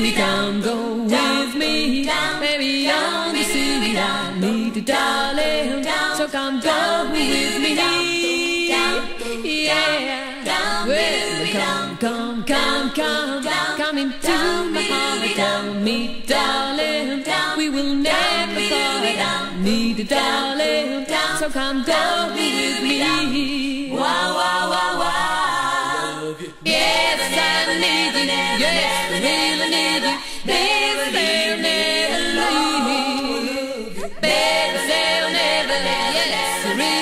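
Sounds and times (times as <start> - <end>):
women singing a cappella harmony: 0.0 - 37.0.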